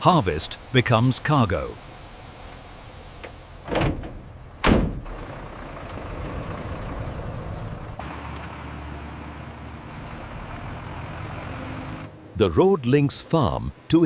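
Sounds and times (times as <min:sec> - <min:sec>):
steady mechanical rumble: 0:00.0 - 0:12.4.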